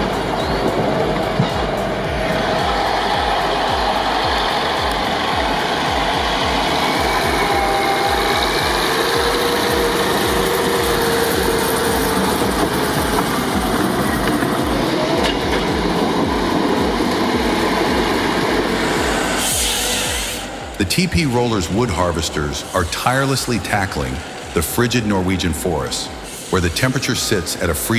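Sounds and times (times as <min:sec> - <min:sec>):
diesel truck engine running: 0:00.0 - 0:27.9.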